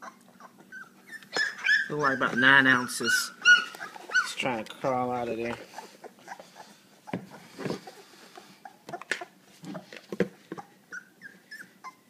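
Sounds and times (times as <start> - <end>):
faint puppy squeaks: 0.0 - 8.9, 10.6 - 12.0.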